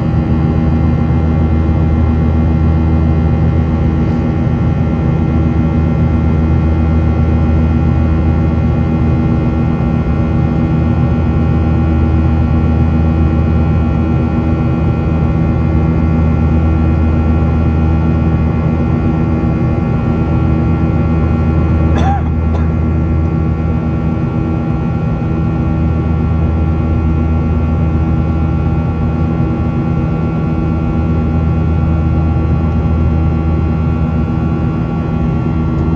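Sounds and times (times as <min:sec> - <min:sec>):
jet engine cabin drone: 0:00.0 - 0:35.9.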